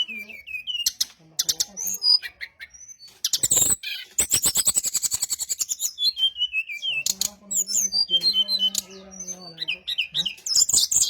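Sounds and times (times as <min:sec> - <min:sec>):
bird trilling: 0:00.0 - 0:11.0.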